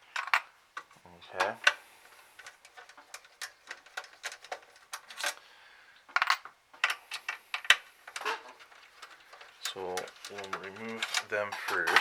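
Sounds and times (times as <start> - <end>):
clicks and taps handling console parts: 0.2 - 1.8, 2.4 - 5.4, 6.1 - 12.0.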